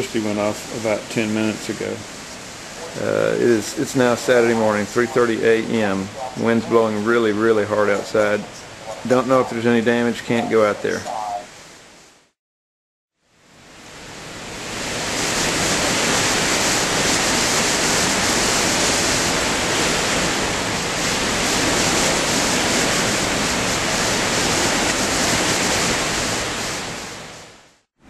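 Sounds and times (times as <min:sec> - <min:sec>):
high wind blowing through tree: 0:00.0 - 0:12.4, 0:13.2 - 0:27.9.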